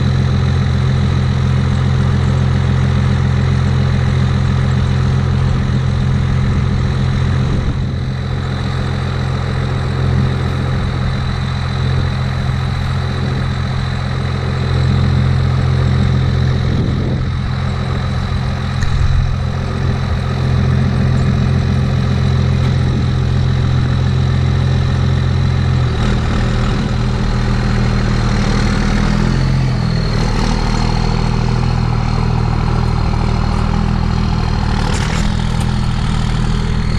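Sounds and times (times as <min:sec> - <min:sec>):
truck engine idling and pulling away: 0:00.0 - 0:36.9.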